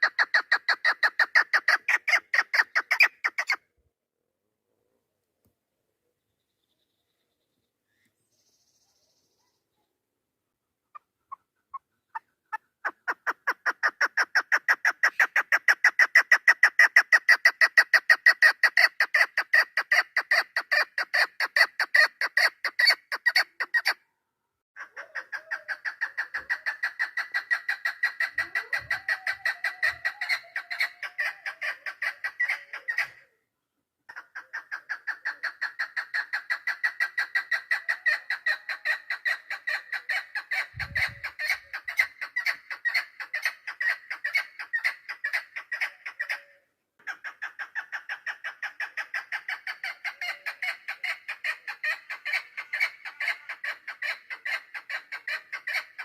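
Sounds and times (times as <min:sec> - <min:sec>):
partridge clucking call: 0:00.0 - 0:03.6, 0:10.9 - 0:24.0, 0:24.8 - 0:33.3, 0:34.1 - 0:56.0.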